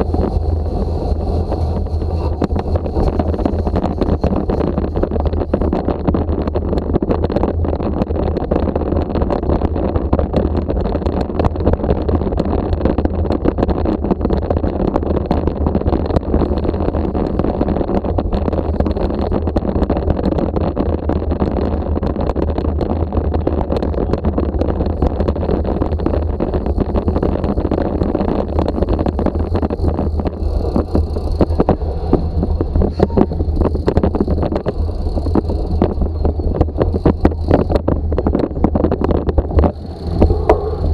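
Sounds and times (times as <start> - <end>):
bicycle rattling over cobblestones: 0.0 - 40.9.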